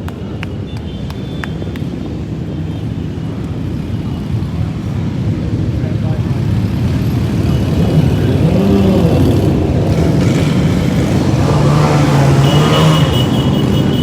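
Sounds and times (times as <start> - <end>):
motorcycle engines passing: 0.0 - 14.0.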